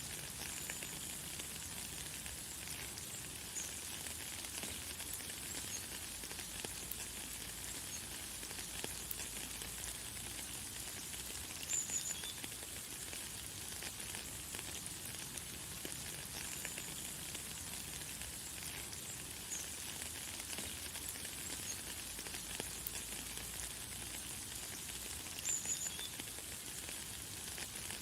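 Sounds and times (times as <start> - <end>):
light rain pattering: 0.0 - 28.0.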